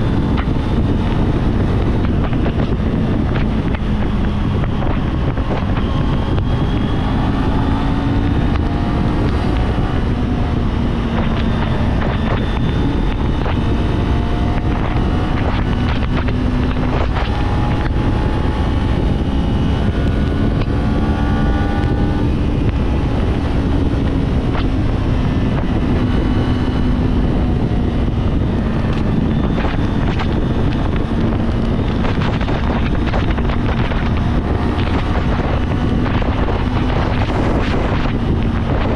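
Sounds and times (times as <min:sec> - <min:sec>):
motorcycle engine cruising: 0:00.0 - 0:38.9
wind noise on microphone: 0:00.0 - 0:38.9.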